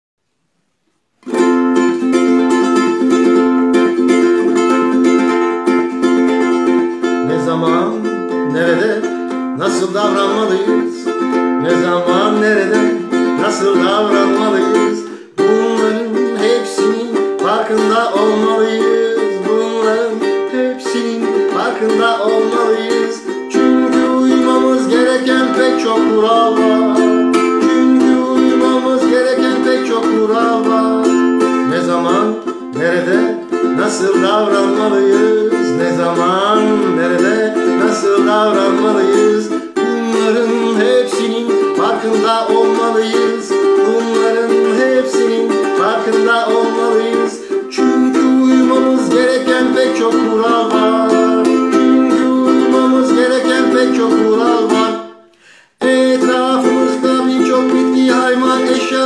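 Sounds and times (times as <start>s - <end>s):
ukulele strumming chords: 1.2s - 59.0s
wordless vocal melody: 2.3s - 59.0s.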